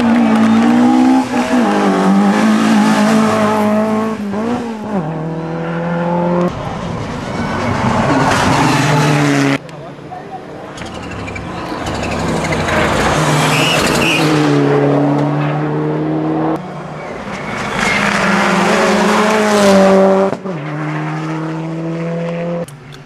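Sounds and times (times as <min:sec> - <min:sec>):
rally car engines revving hard: 0:00.0 - 0:09.6, 0:10.8 - 0:22.7.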